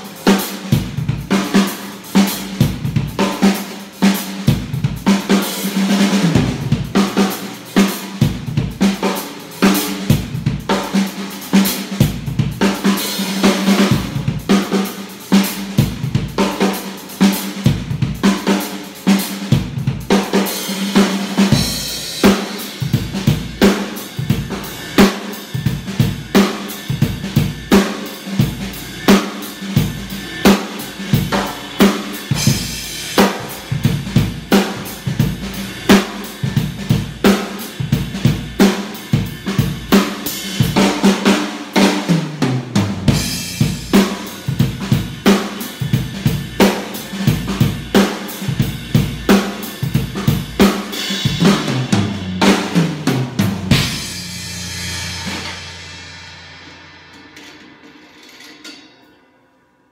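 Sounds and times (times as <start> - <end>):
drum kit groove: 0.0 - 58.9
drum fills stepping down: 4.2 - 57.6.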